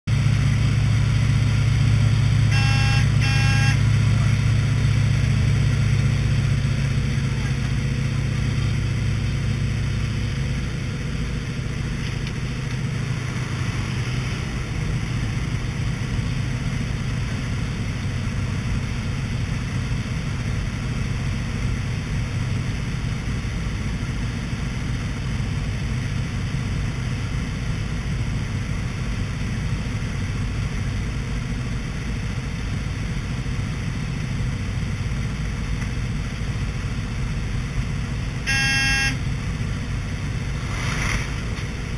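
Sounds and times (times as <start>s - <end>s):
propeller plane engine drone: 0.1s - 41.9s.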